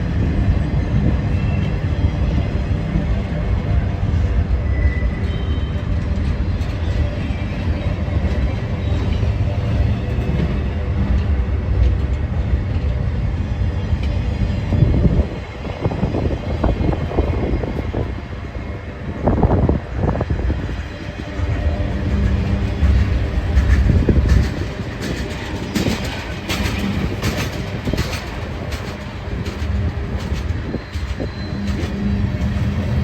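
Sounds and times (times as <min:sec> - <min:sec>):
freight train wheels rumbling on rail: 0:00.0 - 0:33.0
train cars knocking and clattering: 0:00.0 - 0:33.0.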